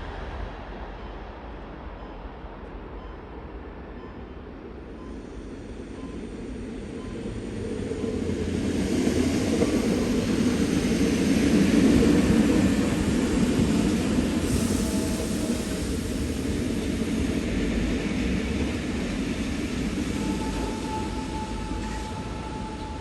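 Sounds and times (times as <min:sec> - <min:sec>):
train rumbling past on tracks: 0:00.0 - 0:23.0.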